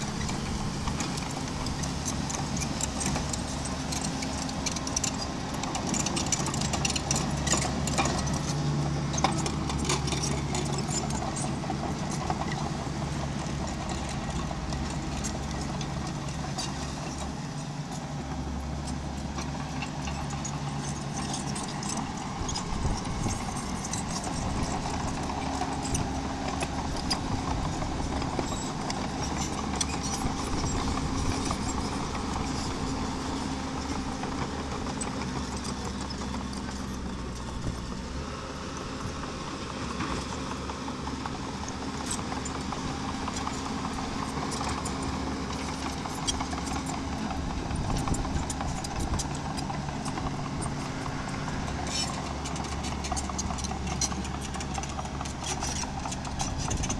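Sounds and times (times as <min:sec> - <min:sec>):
bulldozer engine running: 0:00.0 - 0:56.9.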